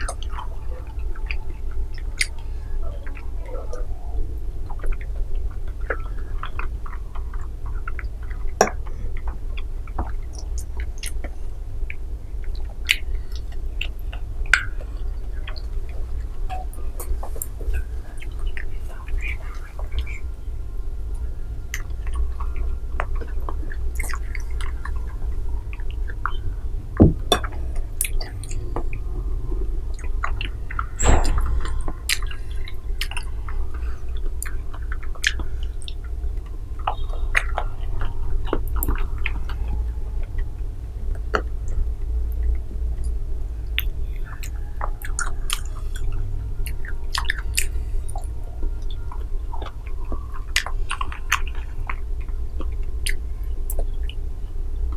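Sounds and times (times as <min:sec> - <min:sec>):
wet chewing mouth clicks: 0:00.0 - 0:20.5, 0:21.1 - 0:54.3
low rumble: 0:00.0 - 0:54.9.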